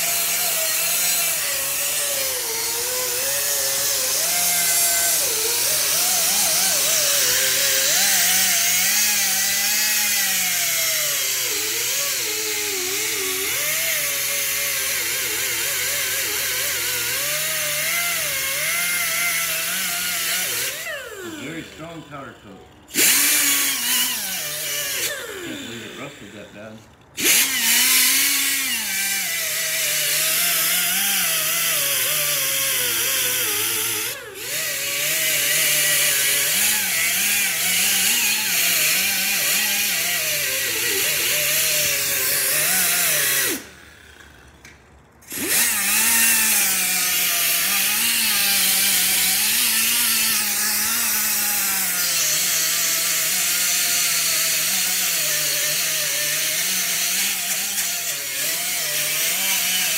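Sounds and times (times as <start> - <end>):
pneumatic grinder whining on metal: 0.0 - 59.9.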